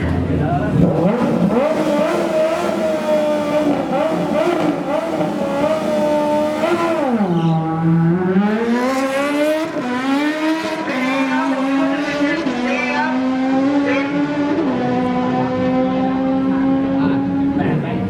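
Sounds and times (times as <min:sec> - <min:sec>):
motorcycle engine at high revs: 0:00.1 - 0:18.0.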